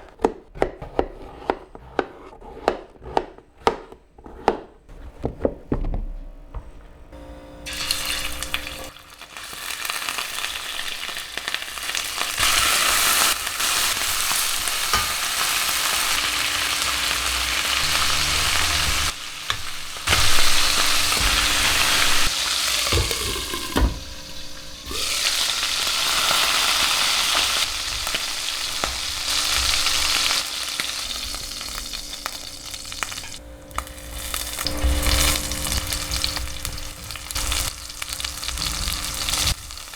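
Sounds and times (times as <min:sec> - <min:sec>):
food sizzling in a pan: 0:07.6 - 0:39.9.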